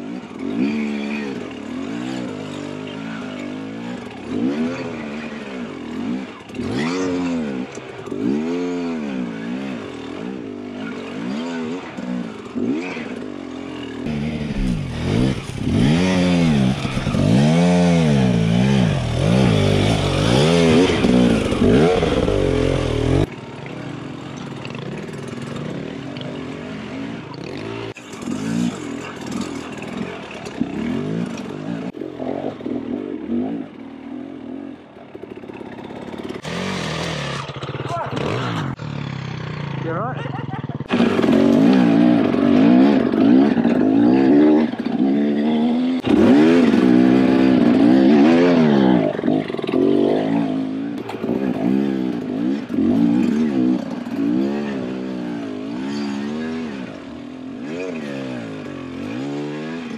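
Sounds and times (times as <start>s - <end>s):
dirt bike engine revving in blips: 0.0s - 59.9s.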